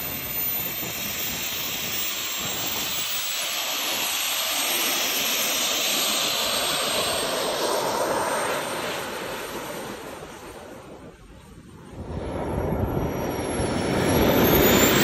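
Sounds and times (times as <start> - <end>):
jet engine rushing hiss: 0.0 - 15.0.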